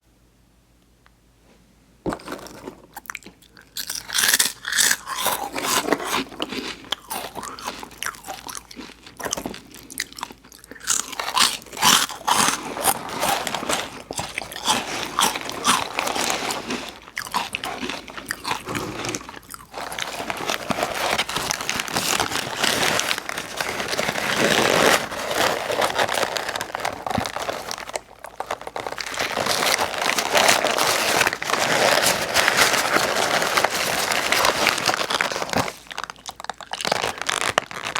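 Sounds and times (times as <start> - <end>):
person chewing crunchy food: 2.1 - 37.9.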